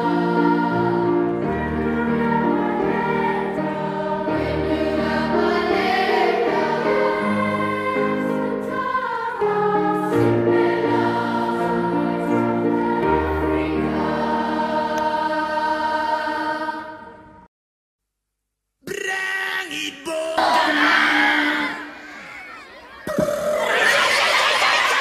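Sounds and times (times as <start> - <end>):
children's choir singing: 0.0 - 17.4, 20.4 - 25.0.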